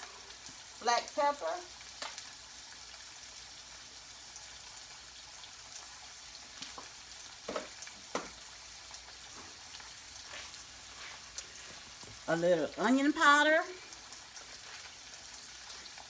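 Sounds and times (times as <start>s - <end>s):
frying sizzle: 0.0s - 16.0s.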